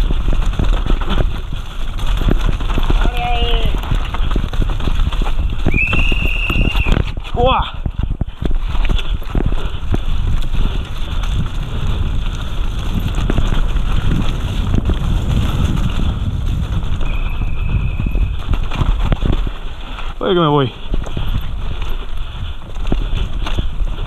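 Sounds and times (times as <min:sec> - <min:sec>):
bike rattling and knocking: 0:00.0 - 0:24.0
bike tyres rumbling over dirt: 0:00.0 - 0:24.0
wind buffeting microphone: 0:00.0 - 0:24.0.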